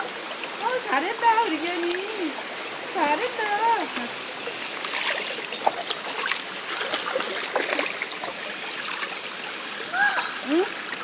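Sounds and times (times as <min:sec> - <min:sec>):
stream water rushing: 0:00.0 - 0:11.0
water splashes: 0:00.0 - 0:11.0.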